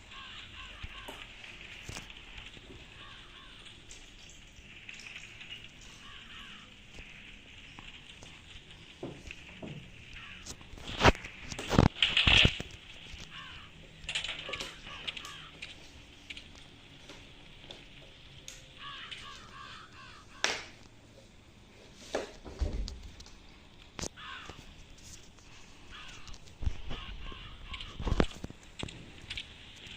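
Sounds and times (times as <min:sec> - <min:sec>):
harsh bird calls: 0:00.0 - 0:21.1, 0:24.0 - 0:28.9.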